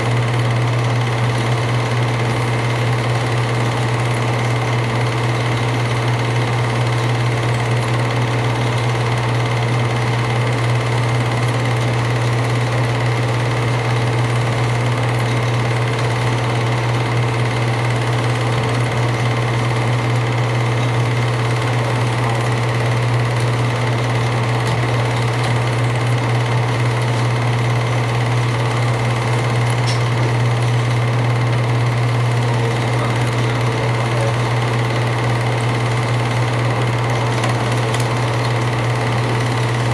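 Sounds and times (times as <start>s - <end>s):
movie projector whirring: 0.0s - 39.9s.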